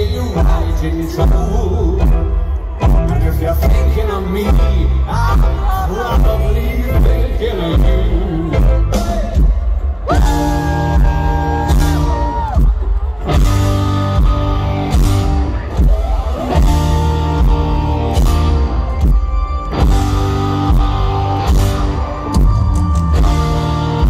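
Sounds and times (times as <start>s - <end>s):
drum and cymbal hits: 0.0s - 24.0s
live rock band playing: 0.0s - 24.0s.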